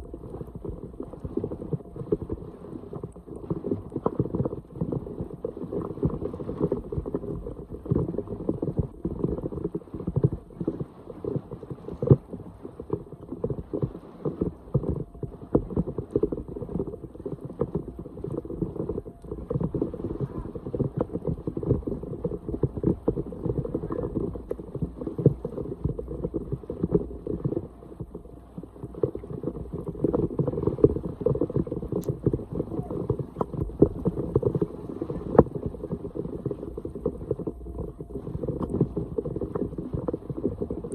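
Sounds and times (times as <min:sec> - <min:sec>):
water splashing and sloshing: 0:00.0 - 0:40.9.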